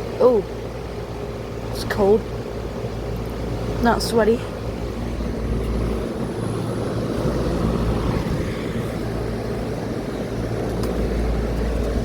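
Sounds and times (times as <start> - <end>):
compressor hum: 0.0 - 12.0
condenser fan whirring: 0.0 - 12.0.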